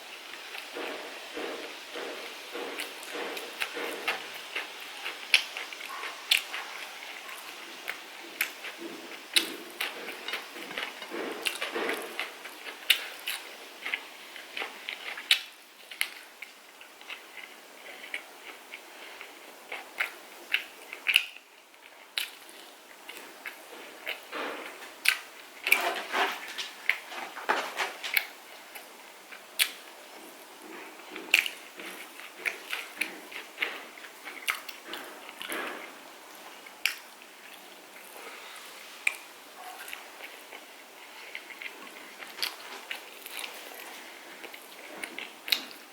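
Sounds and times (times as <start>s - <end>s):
chewing and biting food: 0.5s - 38.4s, 39.0s - 45.9s.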